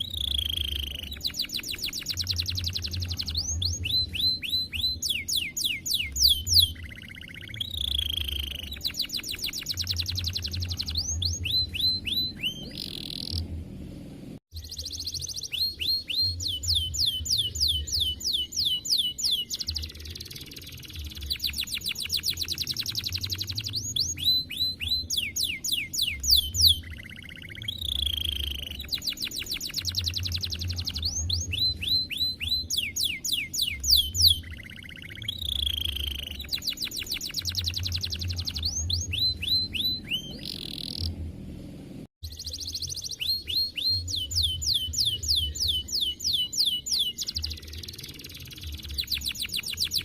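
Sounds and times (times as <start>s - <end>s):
canary singing trills: 0.0s - 13.5s, 14.5s - 41.2s, 42.2s - 50.0s.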